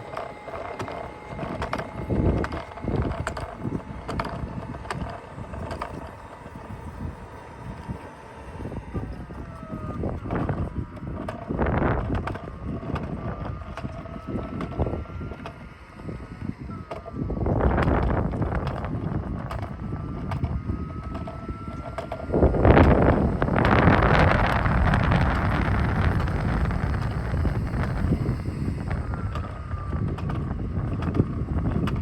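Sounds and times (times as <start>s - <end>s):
faint motor whine: 0.0s - 32.0s
small clicks: 0.0s - 32.0s
wind buffeting microphone: 0.0s - 32.0s.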